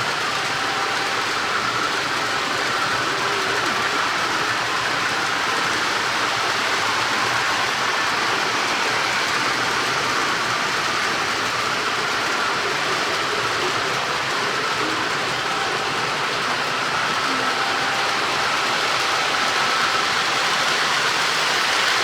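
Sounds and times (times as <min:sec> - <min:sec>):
faint motor whine: 0:00.0 - 0:22.0
model train wheels rattling: 0:00.0 - 0:22.0.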